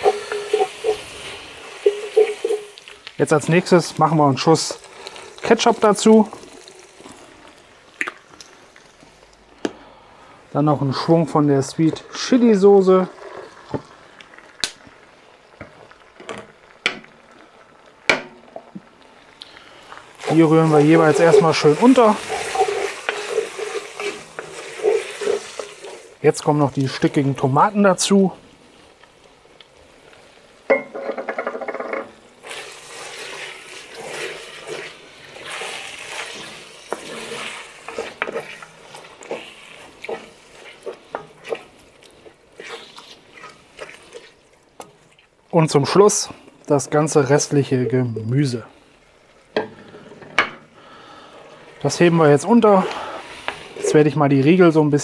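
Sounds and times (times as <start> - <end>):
meat sizzling in a pot: 0.0 - 55.0.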